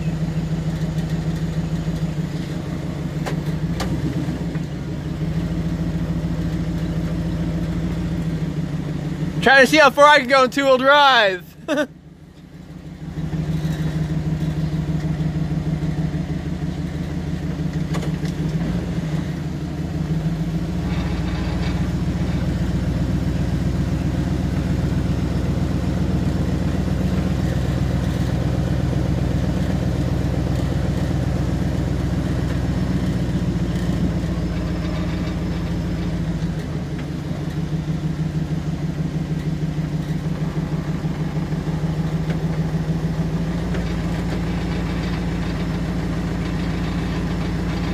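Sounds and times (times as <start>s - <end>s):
pickup truck engine pulsing: 4.3s - 47.9s.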